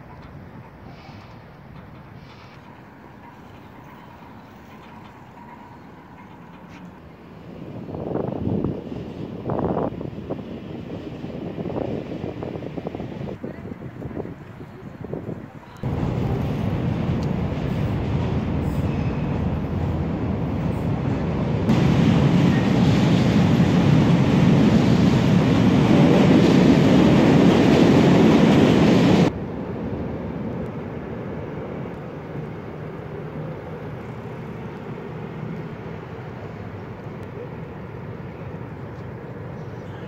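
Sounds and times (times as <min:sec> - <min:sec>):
train rumbling across bridge: 0:00.0 - 0:40.0.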